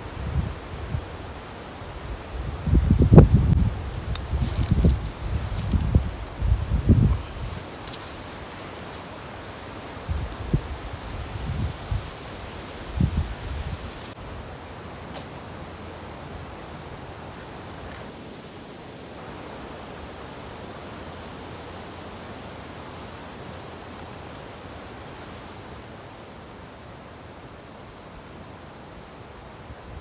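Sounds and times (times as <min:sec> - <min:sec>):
steady rushing noise outdoors: 0:00.0 - 0:30.0.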